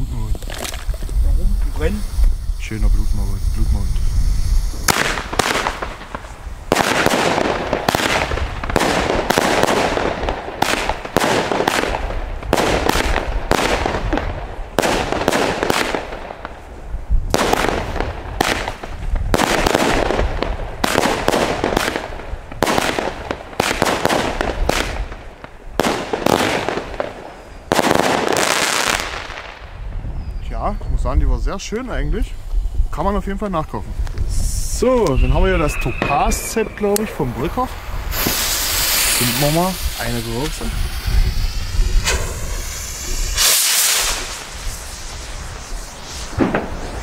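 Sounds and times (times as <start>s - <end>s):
fireworks shots and bursts: 0.0s - 29.9s, 34.4s - 47.0s.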